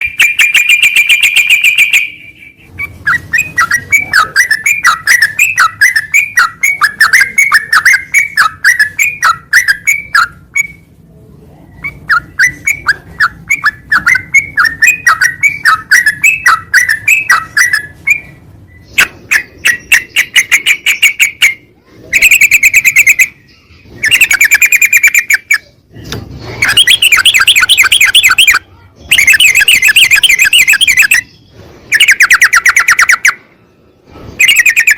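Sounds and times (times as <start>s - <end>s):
bird singing chirpy notes: 0.0s - 10.9s, 11.7s - 25.8s, 26.6s - 33.5s.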